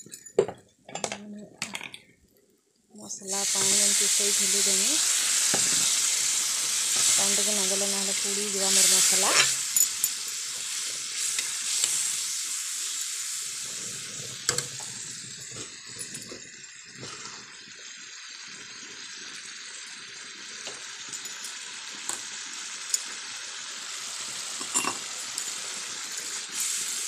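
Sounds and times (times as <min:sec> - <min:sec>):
spice paste sizzling in a pan: 0:03.0 - 0:27.0.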